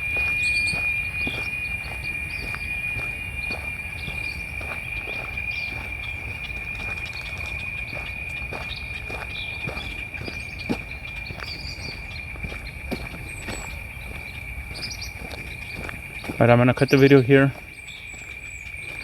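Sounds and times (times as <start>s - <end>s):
bird chirps: 0.0s - 19.0s
cicadas droning: 0.0s - 19.0s
footsteps on a trail: 0.0s - 19.0s.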